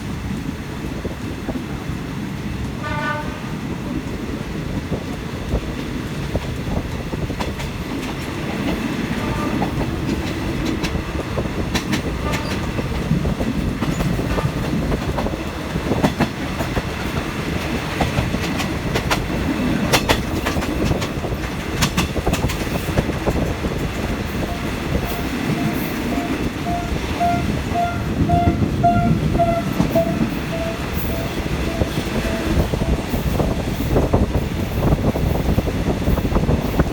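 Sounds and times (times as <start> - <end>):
train rumbling: 0.0 - 36.9
wheels clacking over rail joints: 4.0 - 36.9.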